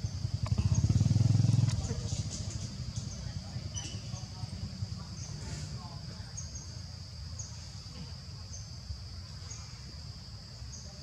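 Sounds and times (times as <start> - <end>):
constant low rumble: 0.0 - 10.9
insects droning: 0.0 - 11.0.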